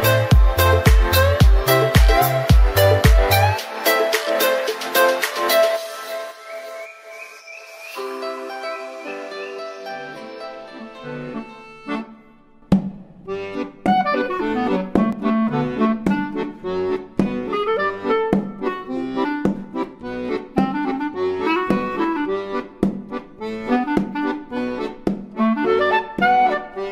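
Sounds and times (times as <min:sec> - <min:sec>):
upbeat instrumental music: 0:00.0 - 0:26.9.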